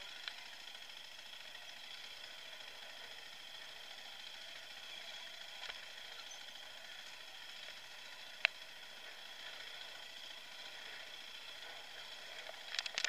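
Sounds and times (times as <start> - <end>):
faint dirt bike engine hum: 0.0 - 13.0.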